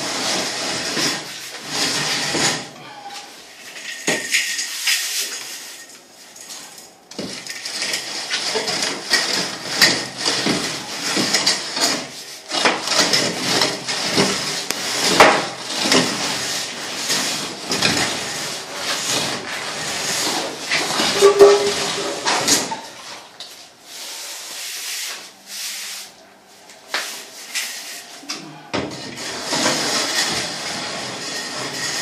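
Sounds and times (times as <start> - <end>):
straightedge scraping cement render: 0.0 - 5.8, 7.4 - 23.2, 26.9 - 32.0.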